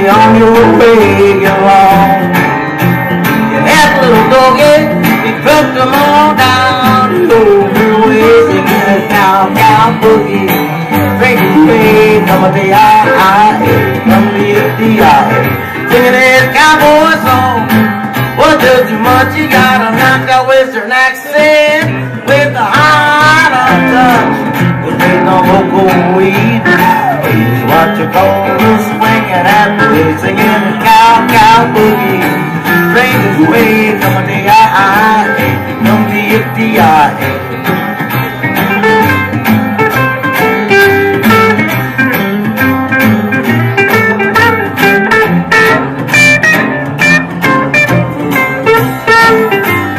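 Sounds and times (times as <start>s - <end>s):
man singing: 0.0s - 37.9s, 43.4s - 49.9s
country band playing: 0.0s - 49.9s.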